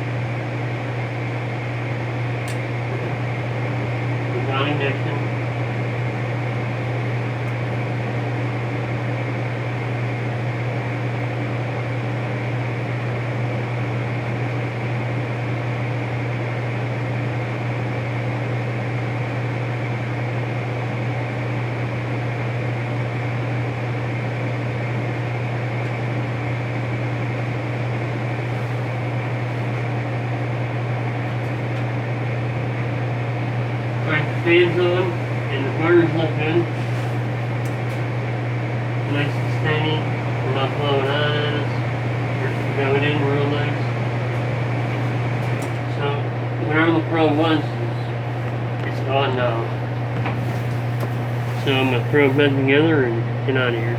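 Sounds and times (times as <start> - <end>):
gas furnace humming: 0.0 - 53.9.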